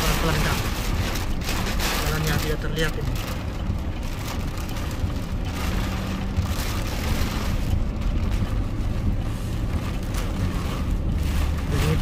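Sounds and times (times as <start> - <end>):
engine and tyres on wet road: 0.0 - 12.0
heavy rain on a car: 0.0 - 12.0.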